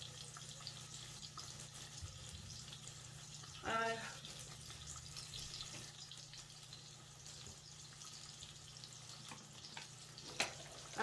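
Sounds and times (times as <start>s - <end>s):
faint crackles of frying: 0.0s - 11.0s
fish sizzling in oil: 0.0s - 11.0s.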